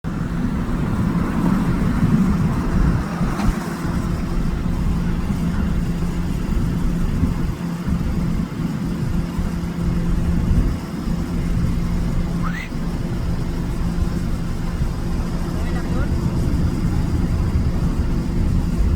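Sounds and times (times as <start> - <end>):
jet engines running: 0.0 - 18.9.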